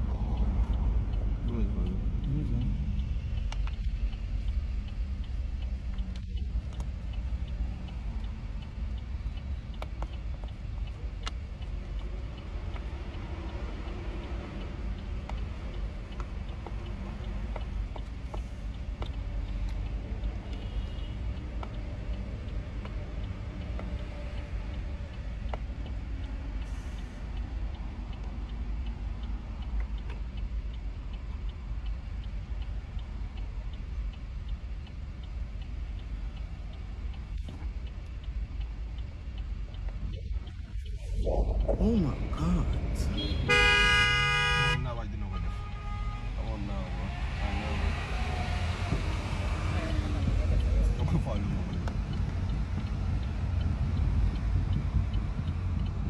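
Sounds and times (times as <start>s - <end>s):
car engine and road rumble: 0.0s - 56.0s
turn signal ticking: 0.0s - 56.0s.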